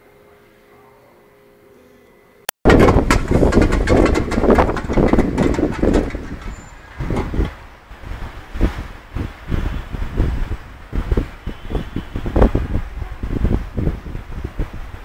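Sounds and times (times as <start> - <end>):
wind buffeting microphone: 2.6 - 15.0
street traffic: 2.7 - 15.0.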